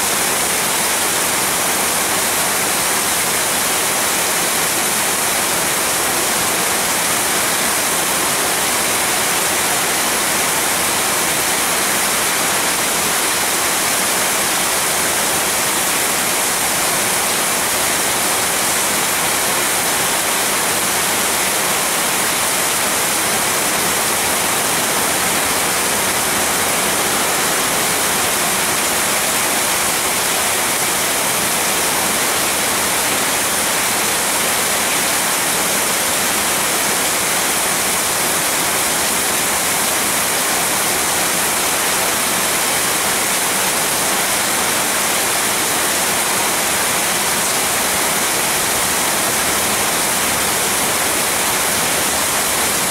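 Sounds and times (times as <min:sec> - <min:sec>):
heavy rain through foliage: 0:00.0 - 0:52.9.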